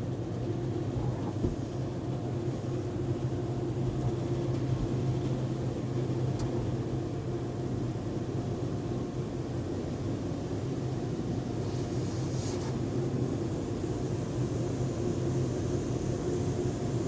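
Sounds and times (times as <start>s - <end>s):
car wash machinery humming: 0.0s - 17.0s.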